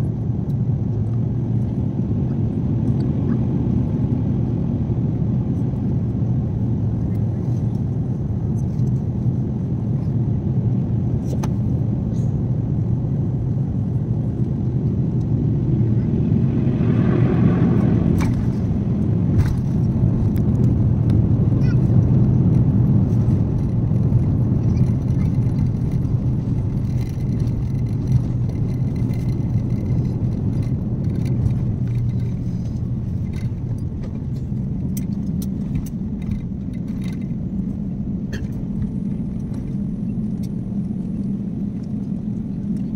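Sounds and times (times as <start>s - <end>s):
airliner engines and wheels rumble: 0.0s - 42.9s.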